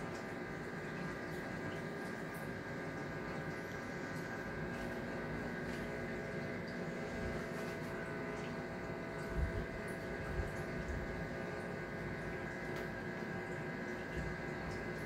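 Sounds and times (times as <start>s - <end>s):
aquarium pumps humming: 0.0s - 15.0s
running water: 0.0s - 15.0s.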